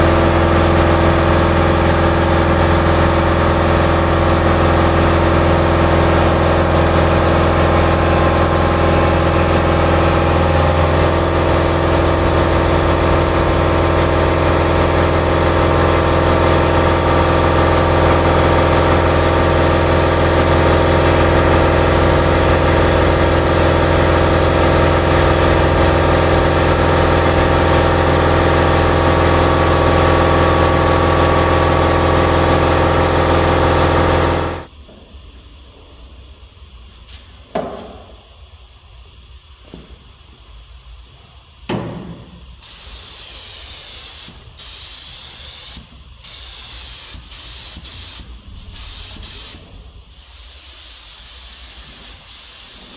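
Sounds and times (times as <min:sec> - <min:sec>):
air compressor humming: 0:00.0 - 0:38.4, 0:39.2 - 0:52.9
spray gun hissing: 0:01.4 - 0:34.7, 0:42.6 - 0:52.9.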